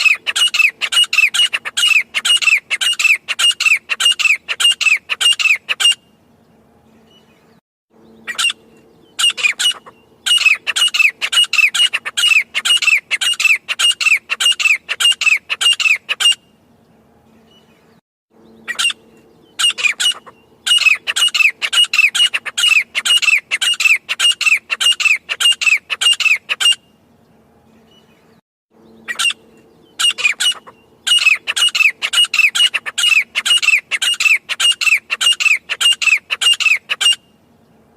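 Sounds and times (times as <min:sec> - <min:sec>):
francolin calling: 0:00.0 - 0:06.0, 0:08.0 - 0:16.4, 0:18.4 - 0:26.9, 0:28.8 - 0:37.4.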